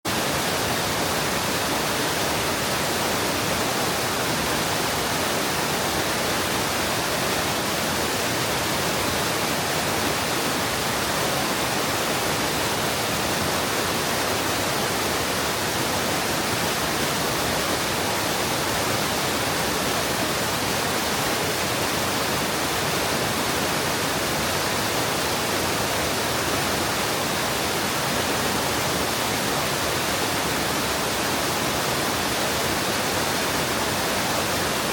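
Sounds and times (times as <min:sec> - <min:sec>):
stream water rushing over rock: 0:00.1 - 0:34.9.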